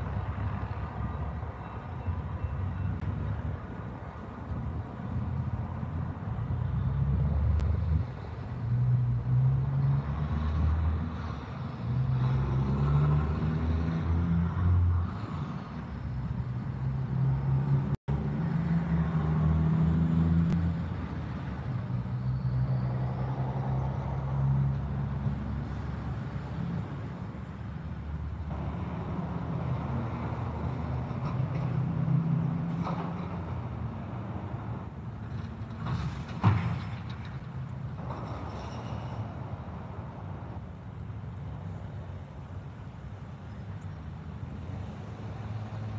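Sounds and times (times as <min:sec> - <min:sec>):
trucks and cars passing: 0:00.0 - 0:45.9.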